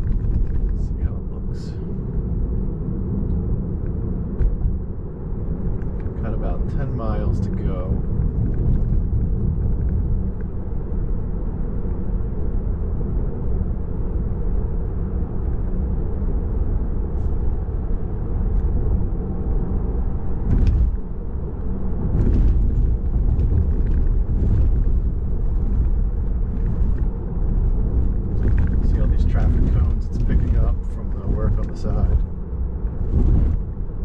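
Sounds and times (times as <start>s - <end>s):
road and tyre rumble: 0.0s - 34.0s.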